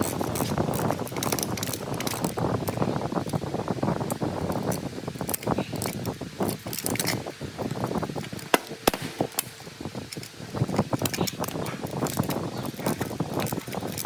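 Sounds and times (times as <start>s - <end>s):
metal parts clicking and knocking: 0.0s - 3.4s, 4.1s - 14.0s.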